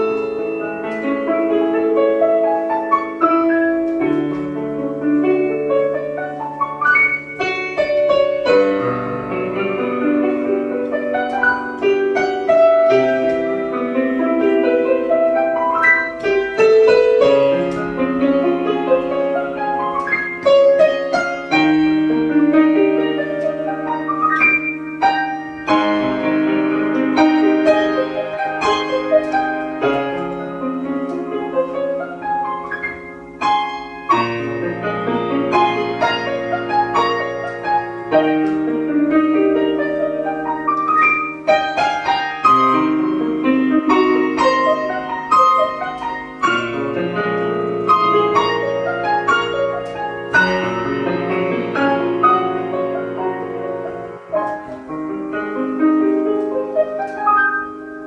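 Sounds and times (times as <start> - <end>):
slow piano piece: 0.0 - 58.0.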